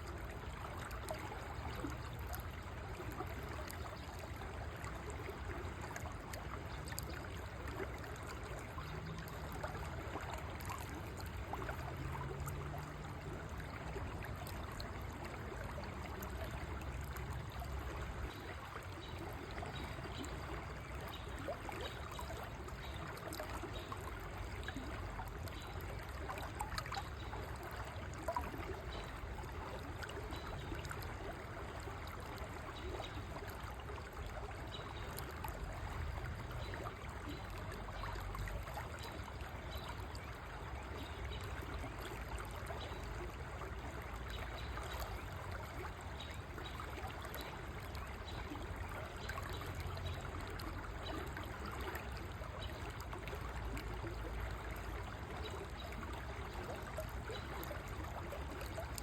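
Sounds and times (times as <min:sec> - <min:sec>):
river water flowing over stones: 0:00.0 - 0:59.0
water splashes: 0:00.0 - 0:59.0.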